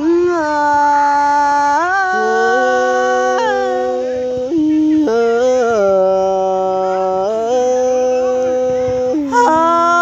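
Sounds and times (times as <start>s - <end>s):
folk singing long notes: 0.0s - 10.0s.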